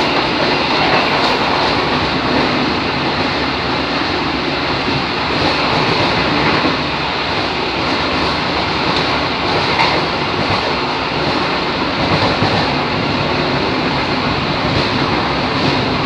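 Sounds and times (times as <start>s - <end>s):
railcar wheels rumbling on rail: 0.0s - 16.0s.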